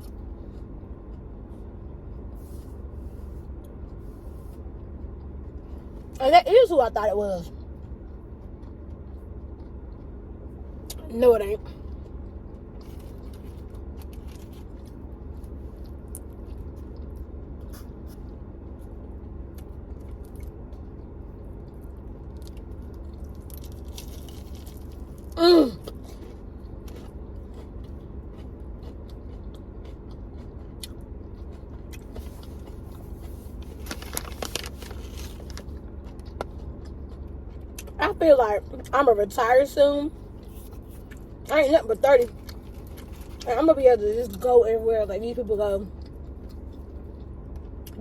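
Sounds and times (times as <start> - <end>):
chewing crunchy fried chicken: 0.0 - 6.2, 7.4 - 11.0, 11.6 - 38.9, 39.6 - 44.5, 45.9 - 48.0
steady low hum: 0.0 - 48.0.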